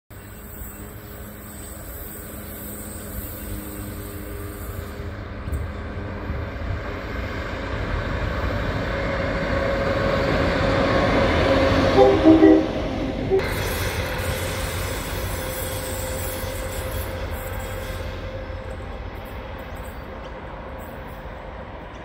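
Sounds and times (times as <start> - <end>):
diesel locomotive rumbling: 0.1 - 22.0.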